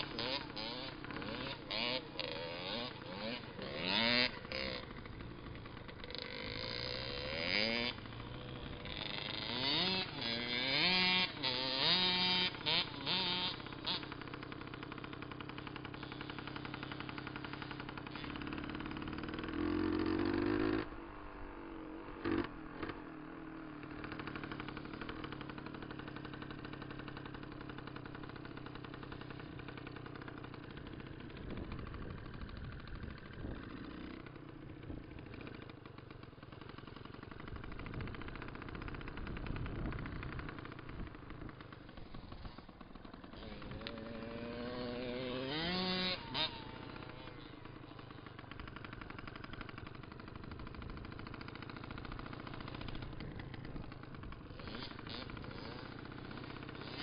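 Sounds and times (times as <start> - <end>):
dirt bike engines revving: 0.0 - 57.0
engine idling: 0.0 - 57.0.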